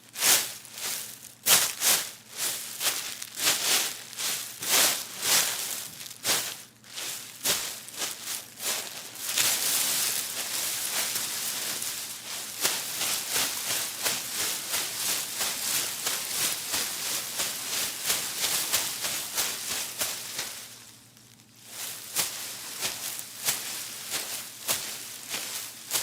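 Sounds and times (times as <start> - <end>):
crunching footsteps through grass: 0.0 - 26.0.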